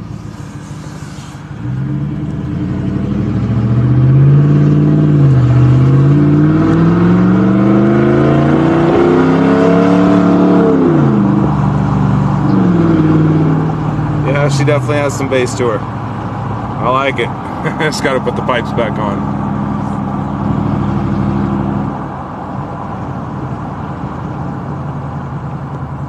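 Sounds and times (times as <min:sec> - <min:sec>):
truck engine accelerating: 0:00.0 - 0:26.0.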